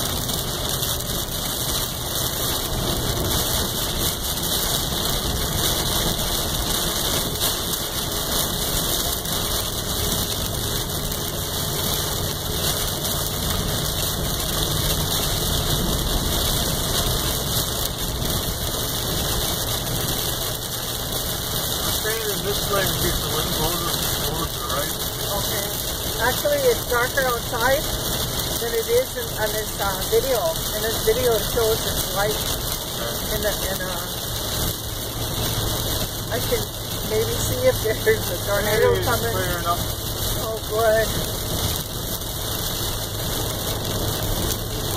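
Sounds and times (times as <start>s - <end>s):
heavy rain on windshield and roof: 0.0s - 44.9s
road noise: 0.0s - 44.9s
truck engine running: 0.0s - 44.9s.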